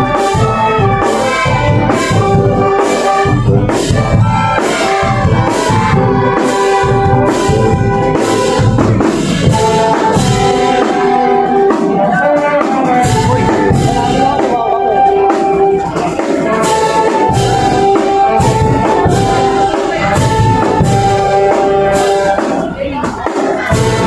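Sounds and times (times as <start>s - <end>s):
brass band melody: 0.0s - 24.0s
steady drum beat: 0.0s - 24.0s.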